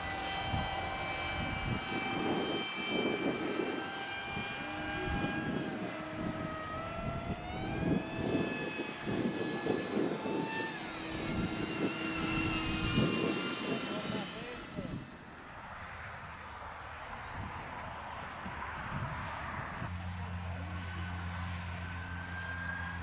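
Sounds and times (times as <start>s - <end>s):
model aeroplane motor drone: 0.0s - 23.0s.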